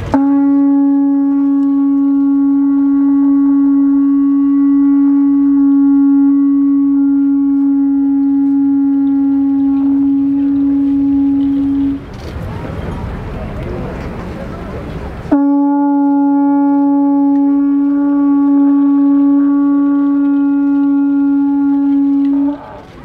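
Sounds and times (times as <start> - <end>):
conch-shell trumpet long note: 0.0 - 12.1, 15.3 - 23.0.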